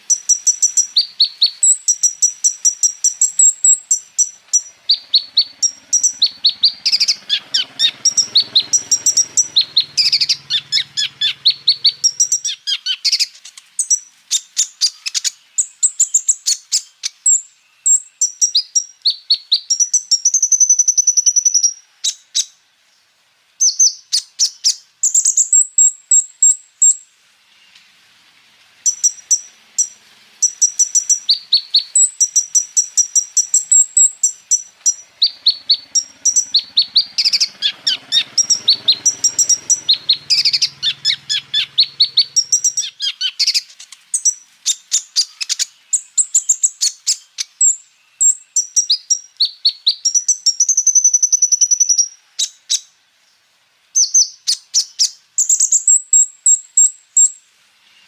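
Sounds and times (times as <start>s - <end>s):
bird singing chirps and trills: 0.0s - 22.6s, 23.6s - 27.8s, 28.8s - 53.0s, 54.0s - 58.0s.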